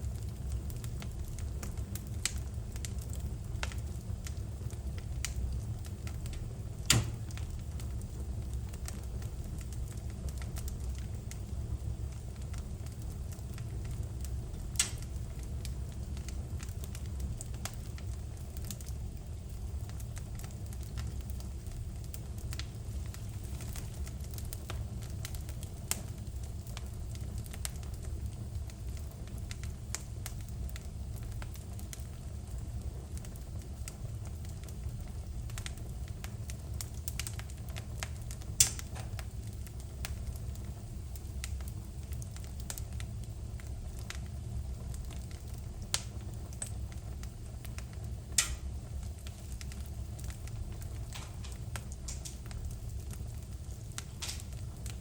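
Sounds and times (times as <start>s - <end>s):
fire crackling in fireplace: 0.0s - 55.0s
loud fire pops: 0.0s - 55.0s
low steady rumble: 0.0s - 55.0s.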